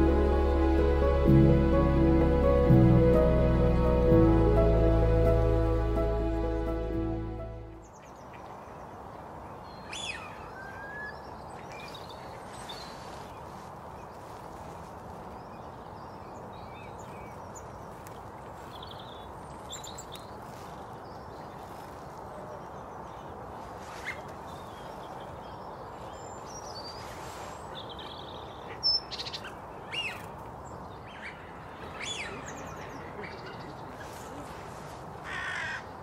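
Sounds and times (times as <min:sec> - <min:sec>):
wild birds chirping: 0:04.6 - 0:14.3, 0:15.2 - 0:36.0.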